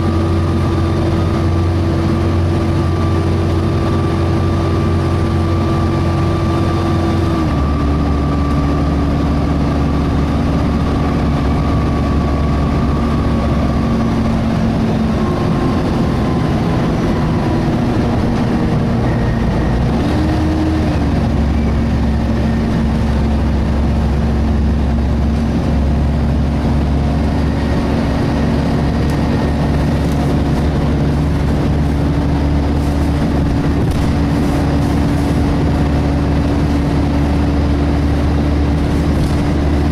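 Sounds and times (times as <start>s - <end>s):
bus engine and fan hum: 0.0s - 39.9s.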